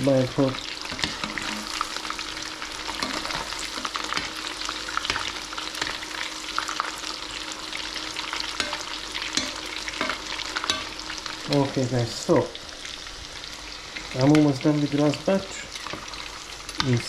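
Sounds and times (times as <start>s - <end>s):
batter frying in hot oil: 0.0s - 17.0s.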